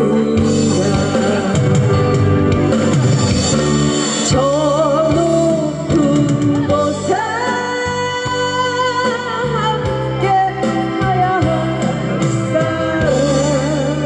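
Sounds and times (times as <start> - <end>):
recorded backing track: 0.0 - 14.0
woman singing pop ballad: 0.0 - 14.0.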